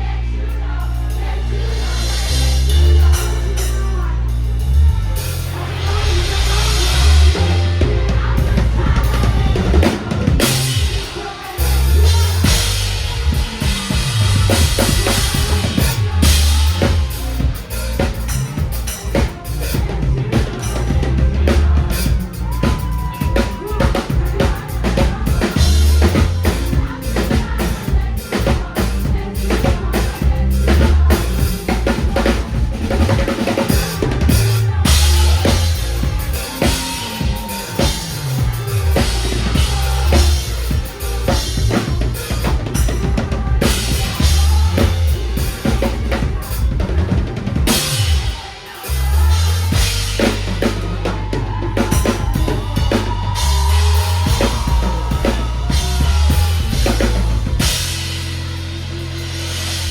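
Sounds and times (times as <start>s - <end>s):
band music: 0.0s - 59.9s
bass notes: 0.0s - 59.9s.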